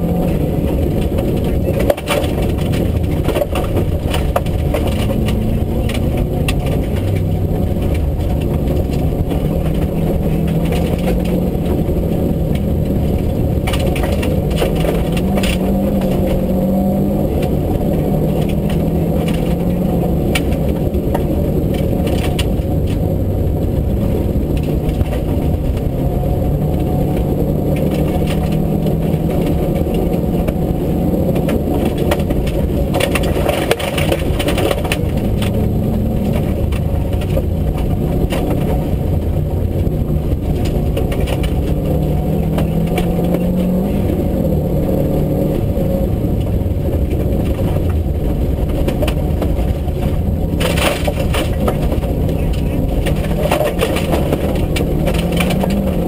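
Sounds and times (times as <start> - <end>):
gravel clattering against underbody: 0.0 - 56.0
rally car engine revving: 0.0 - 56.0.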